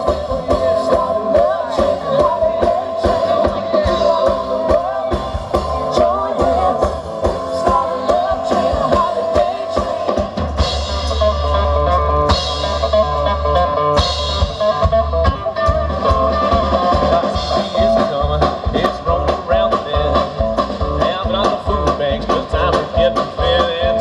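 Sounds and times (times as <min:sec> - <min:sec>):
drum kit beat: 0:00.0 - 0:24.0
guitars: 0:00.0 - 0:24.0
live rock band playing: 0:00.0 - 0:24.0.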